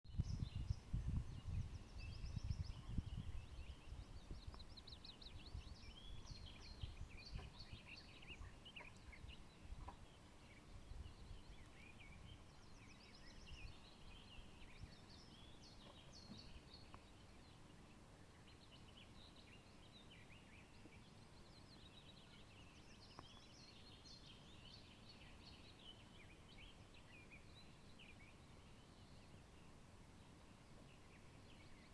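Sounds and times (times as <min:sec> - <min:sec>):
songbirds chirping and trilling: 0:00.1 - 0:31.9.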